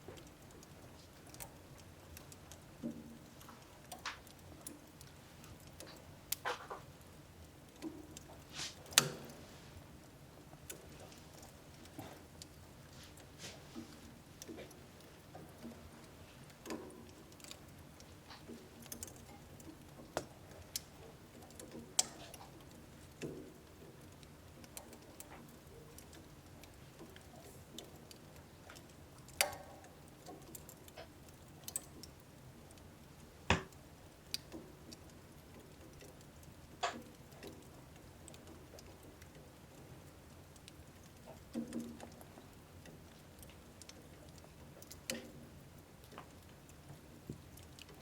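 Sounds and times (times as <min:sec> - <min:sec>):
faint low hiss: 0:00.0 - 0:48.0
wood fire crackling in stove: 0:00.0 - 0:48.0.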